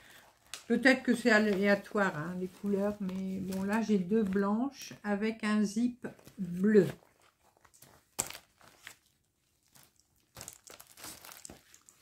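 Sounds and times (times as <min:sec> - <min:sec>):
plastic pouch crinkling: 0:00.0 - 0:04.4, 0:06.2 - 0:12.0.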